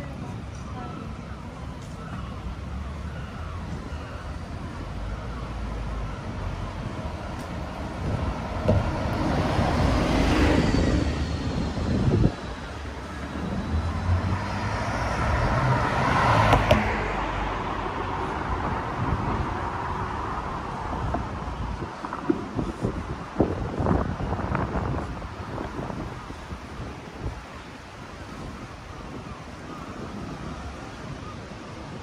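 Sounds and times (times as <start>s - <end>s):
cars passing by: 0.0s - 32.0s
steady traffic noise: 0.0s - 32.0s.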